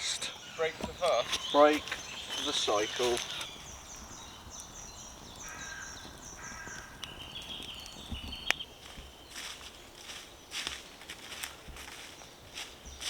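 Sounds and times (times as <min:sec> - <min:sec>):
birds calling lower: 0:00.0 - 0:13.0.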